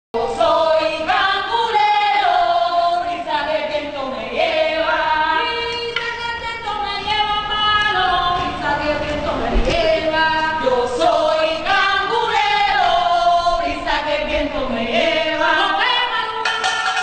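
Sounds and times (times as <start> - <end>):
women's chorus chanting: 0.2 - 16.6.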